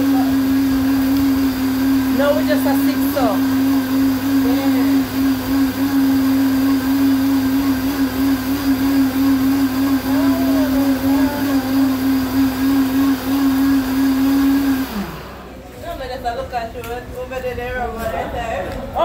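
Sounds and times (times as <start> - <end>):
blender motor running: 0.0 - 15.6.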